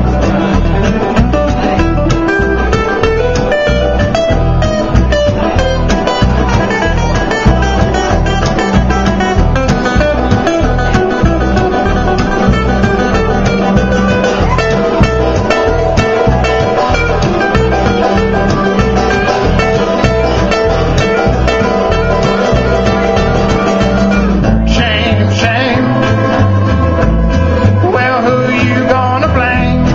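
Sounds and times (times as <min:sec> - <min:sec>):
acoustic guitar picking: 0:00.0 - 0:29.9
banjo: 0:00.0 - 0:29.9
mandolin: 0:00.0 - 0:29.9.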